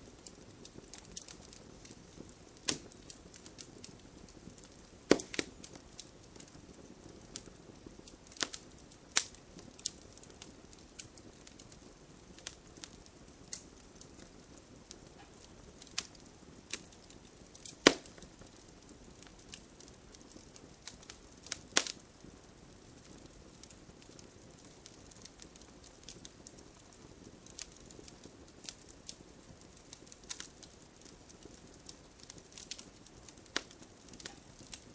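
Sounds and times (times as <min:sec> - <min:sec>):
fire popping: 0:00.0 - 0:34.9
wood fire crackling: 0:00.0 - 0:34.9.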